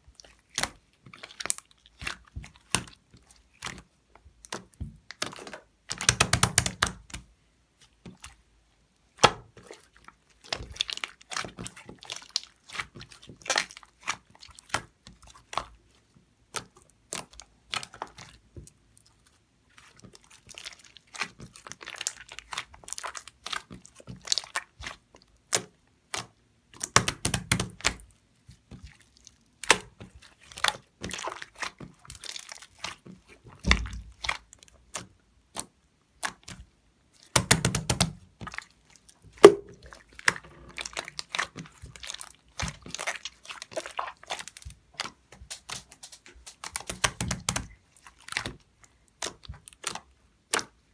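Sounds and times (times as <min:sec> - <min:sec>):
slime being kneaded by hand: 0:00.0 - 0:08.5, 0:09.1 - 0:50.9.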